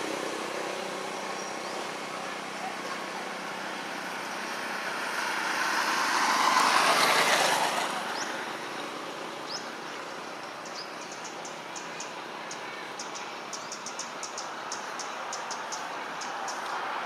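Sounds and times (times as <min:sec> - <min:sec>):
road vehicle passing: 0:00.0 - 0:17.0.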